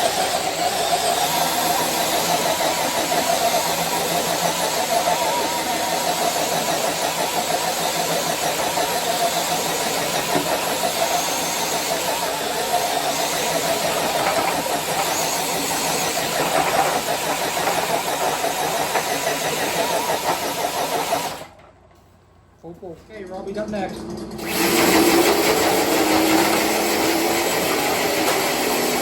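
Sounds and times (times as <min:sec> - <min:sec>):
electric motor whine: 0:00.0 - 0:21.5, 0:24.2 - 0:29.0.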